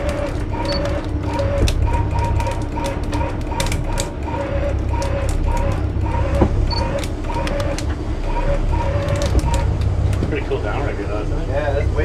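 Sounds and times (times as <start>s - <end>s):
fishing reel stuttering whine: 0.0s - 11.2s
steady low rumble: 0.0s - 12.0s.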